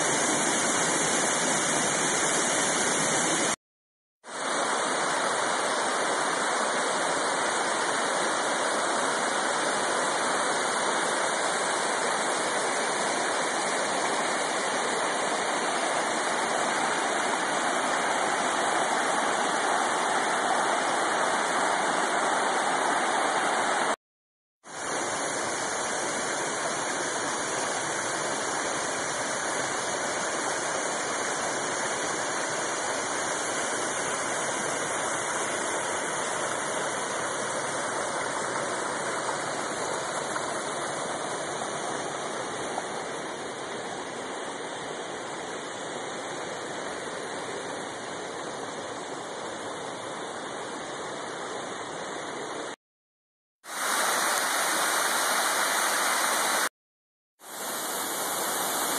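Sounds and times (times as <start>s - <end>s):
waterfall rushing: 0.0s - 3.6s, 4.4s - 24.0s, 24.7s - 52.8s, 53.6s - 56.7s, 57.4s - 58.9s.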